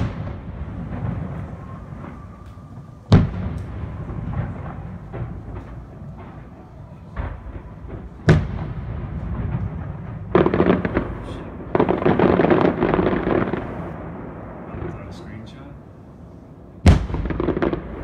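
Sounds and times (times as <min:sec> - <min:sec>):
firework bang: 0:00.0 - 0:15.3, 0:16.8 - 0:18.0
fireworks crackling pops: 0:00.0 - 0:15.8, 0:16.8 - 0:18.0.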